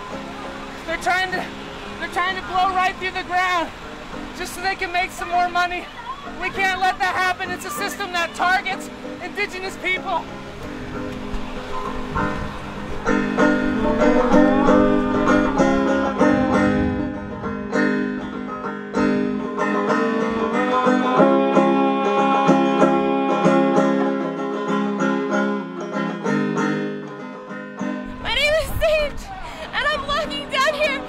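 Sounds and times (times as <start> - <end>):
low musical accompaniment: 0.0 - 28.5.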